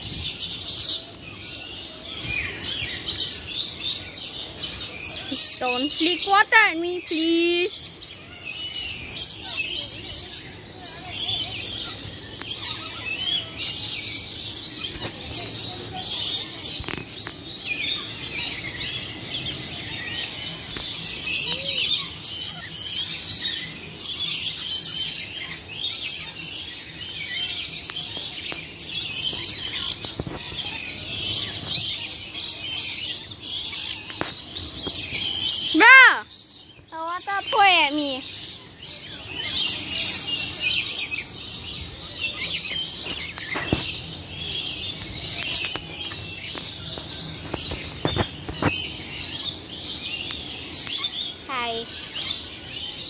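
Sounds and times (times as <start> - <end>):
chorus of birds chirping: 0.0 - 53.0.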